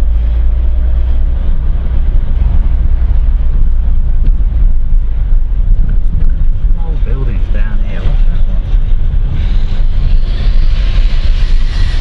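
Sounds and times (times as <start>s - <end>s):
motorcycle engine rumbling: 0.0s - 12.0s
road noise: 0.0s - 12.0s.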